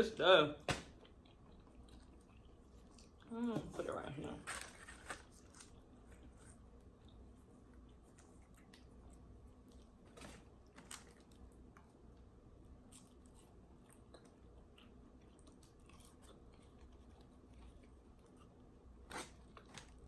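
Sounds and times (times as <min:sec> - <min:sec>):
chewing crispy fried food: 0:00.8 - 0:20.0.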